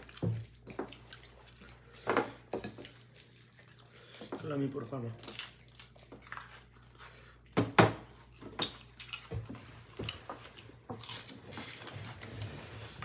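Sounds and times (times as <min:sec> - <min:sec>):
chewing and crunching vegetables: 0:00.0 - 0:12.5.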